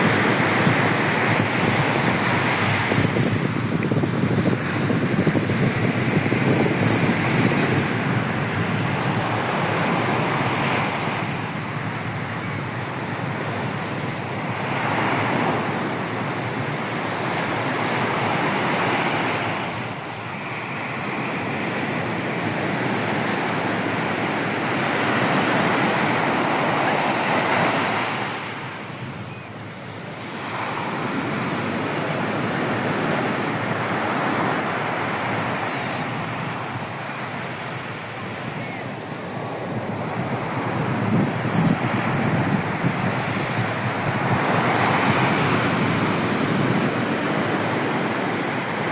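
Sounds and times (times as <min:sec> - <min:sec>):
sea surf breaking on beach: 0:00.0 - 0:48.9
wind buffeting microphone: 0:00.0 - 0:48.9.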